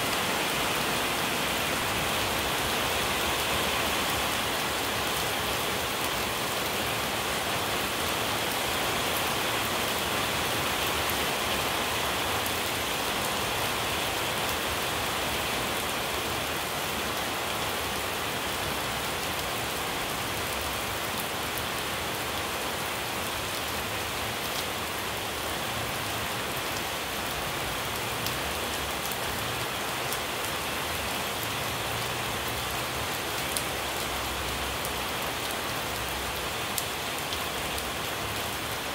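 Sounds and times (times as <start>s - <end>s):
rain on ground and leaves: 0.0s - 38.9s.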